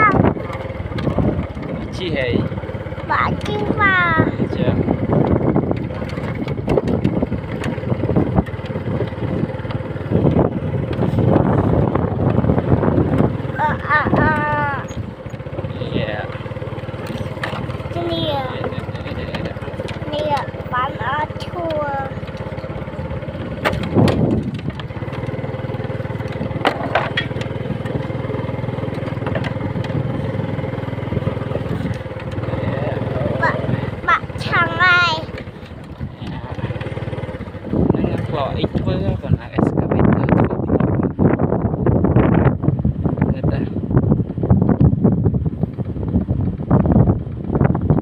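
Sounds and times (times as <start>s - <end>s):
wind on microphone: 0.0s - 2.5s, 3.1s - 16.2s, 17.3s - 48.0s
small vehicle engine running: 0.0s - 48.0s
vehicle knocks and rattles: 0.0s - 48.0s.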